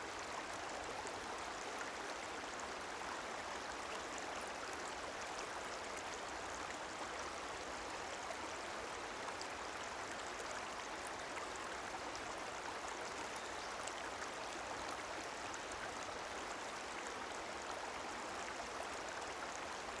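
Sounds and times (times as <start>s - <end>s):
stream water babbling: 0.0s - 20.0s.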